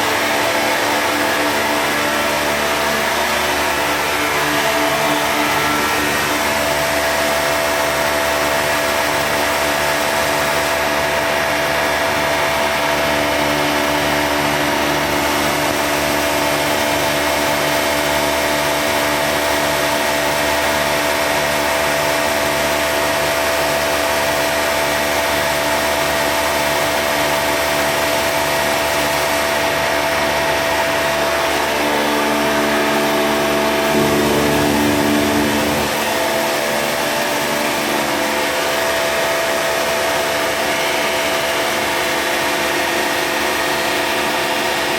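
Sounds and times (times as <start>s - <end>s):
vacuum pump humming: 0.0s - 44.9s.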